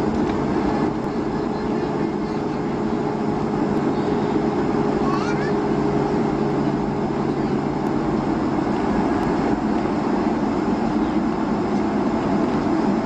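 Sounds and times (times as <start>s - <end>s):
aircraft engine and rushing air: 0.0s - 13.0s.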